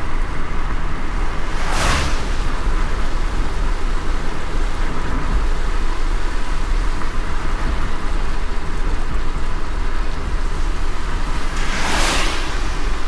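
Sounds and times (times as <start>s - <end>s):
car engine and road rumble: 0.0s - 13.0s
rain and wet tyres hissing: 0.0s - 13.0s.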